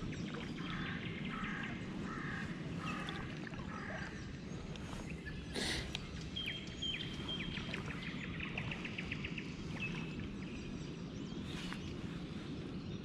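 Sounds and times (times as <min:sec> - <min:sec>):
low outdoor background rumble: 0:00.0 - 0:13.0
songbird singing and trilling: 0:00.0 - 0:13.0.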